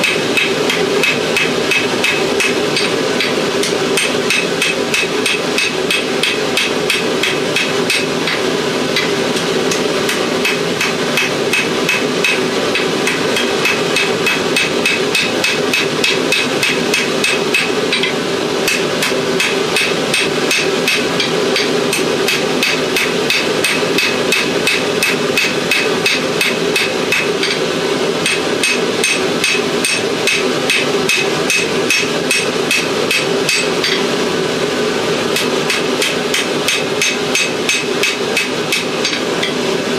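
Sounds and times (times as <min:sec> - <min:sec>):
hammer ringing on anvil: 0:00.0 - 0:34.2, 0:35.4 - 0:39.7
steady hum: 0:00.0 - 0:39.9.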